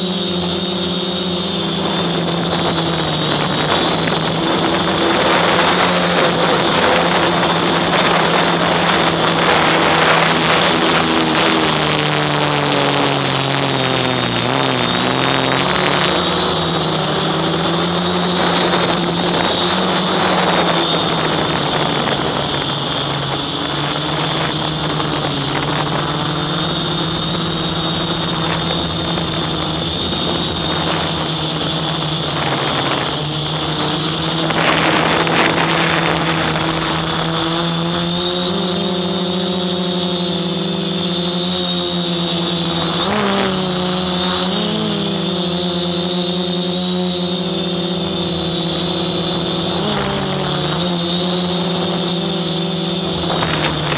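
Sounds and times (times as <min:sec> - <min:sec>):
drone motors buzzing: 0:00.0 - 0:53.9
high-pitched whine: 0:00.0 - 0:53.9.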